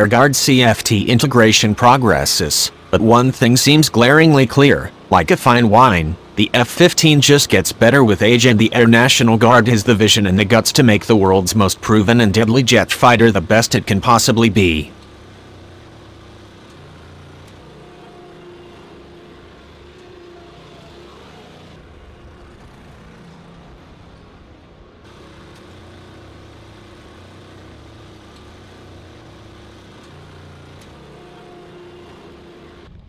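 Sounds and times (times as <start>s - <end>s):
faint tones: 0.0s - 33.0s
machinery hum and hiss: 0.0s - 33.0s.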